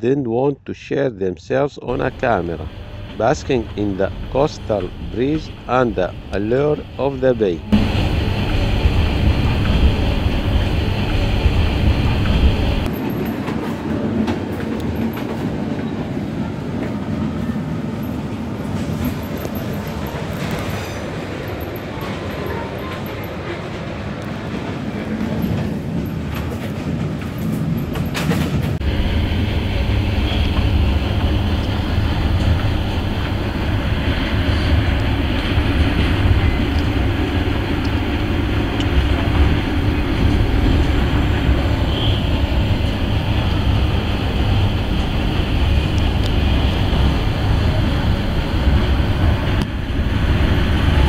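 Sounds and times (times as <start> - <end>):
train carriage rumble: 1.9 - 51.0.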